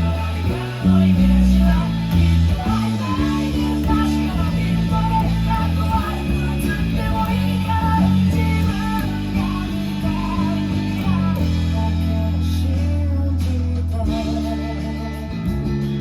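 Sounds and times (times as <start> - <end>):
bass guitar low notes: 0.0 - 16.0
drums: 0.0 - 16.0
electric guitar: 0.0 - 16.0.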